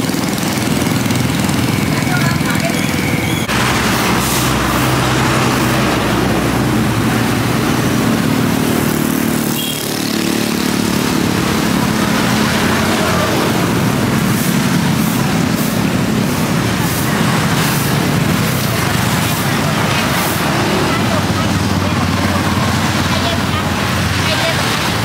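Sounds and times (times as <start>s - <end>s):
road and wind noise: 0.0s - 25.0s
vehicle engine running: 0.0s - 25.0s.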